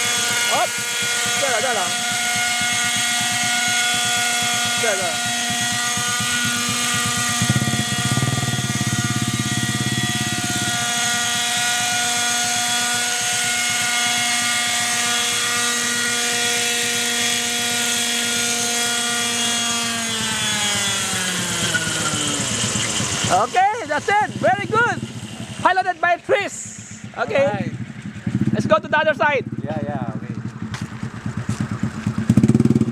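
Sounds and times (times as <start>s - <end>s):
low pulsing rotor chop: 0.0s - 32.9s
model helicopter engine running: 0.0s - 32.9s.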